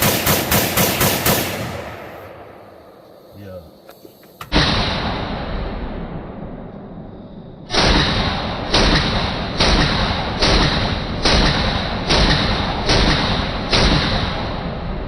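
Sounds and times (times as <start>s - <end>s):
gunshots: 0.0s - 2.7s, 4.5s - 6.6s, 7.7s - 15.0s.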